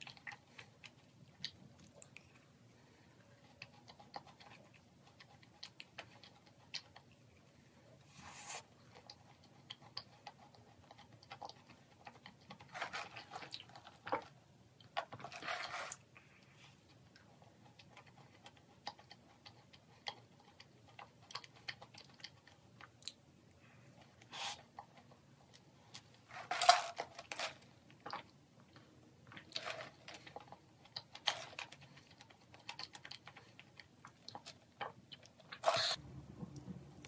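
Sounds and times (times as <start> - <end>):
chewing crackles: 0.0 - 7.6, 8.8 - 15.1, 16.8 - 26.2, 27.9 - 37.0.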